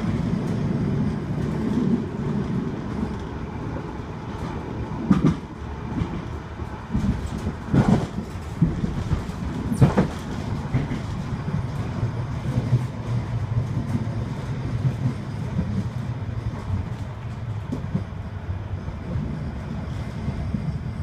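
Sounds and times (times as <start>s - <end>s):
tram wheels rumbling: 0.0s - 21.0s.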